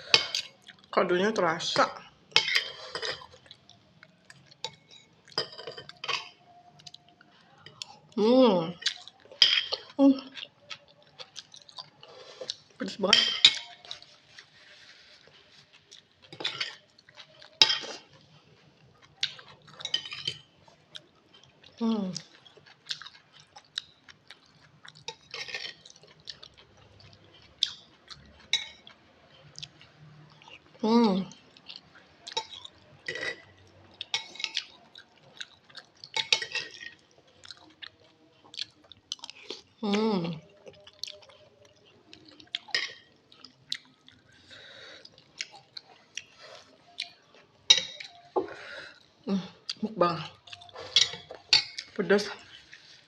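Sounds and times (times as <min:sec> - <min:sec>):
wet chewing of noodles: 0:00.0 - 0:01.0, 0:02.1 - 0:53.0.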